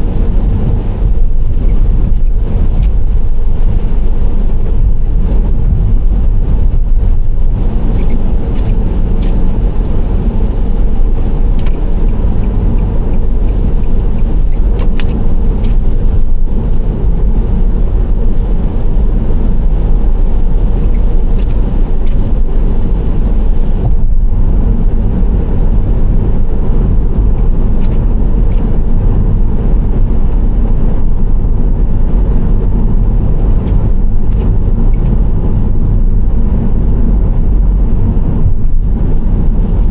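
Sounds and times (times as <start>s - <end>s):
engine and tyre road noise: 0.0s - 39.9s.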